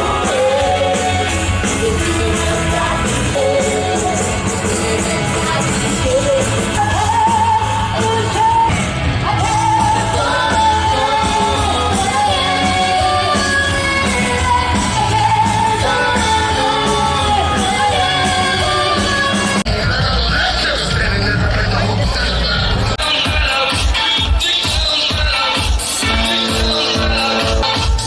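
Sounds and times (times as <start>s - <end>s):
band playing live: 0.0s - 28.0s.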